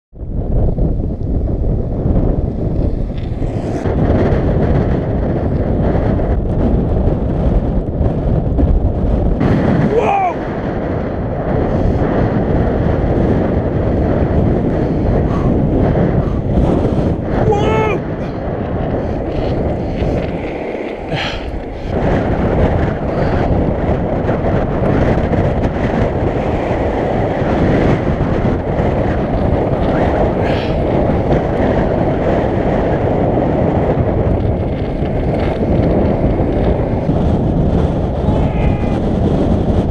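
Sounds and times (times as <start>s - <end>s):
wind buffeting microphone: 0.1s - 39.9s
skateboard wheels rolling: 0.2s - 17.4s, 18.0s - 39.9s.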